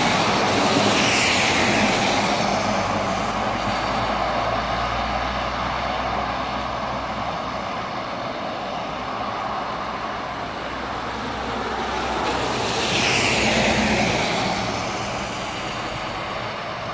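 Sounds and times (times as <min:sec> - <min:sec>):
traffic on wet road: 0:00.0 - 0:16.9
tyres swishing through water: 0:00.0 - 0:16.9.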